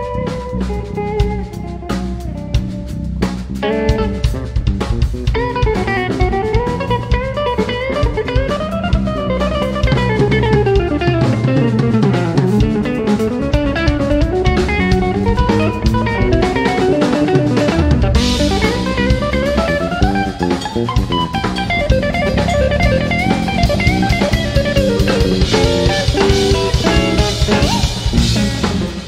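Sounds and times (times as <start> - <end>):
drum kit: 0.0 - 29.0
electric bass: 0.0 - 29.0
electric guitar melody: 0.0 - 29.0.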